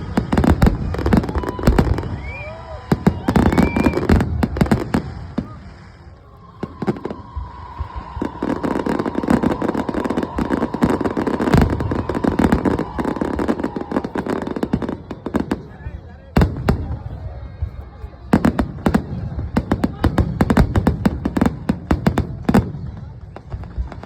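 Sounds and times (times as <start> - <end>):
fireworks bangs: 0.0 - 24.0
rapid fireworks crackling: 0.0 - 24.0.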